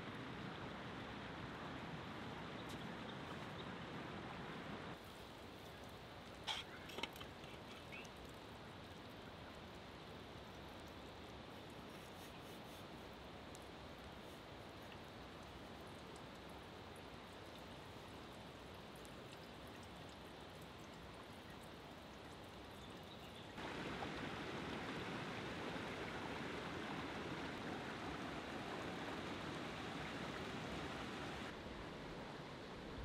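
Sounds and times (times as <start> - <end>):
stream water running: 0.0 - 33.0.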